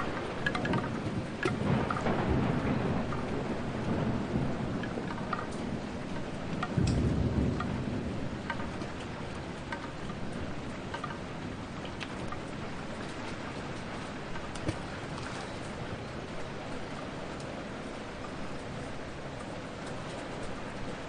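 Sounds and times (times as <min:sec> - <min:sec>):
thunder rumbling: 0:00.0 - 0:18.0
steady rain: 0:00.0 - 0:21.0.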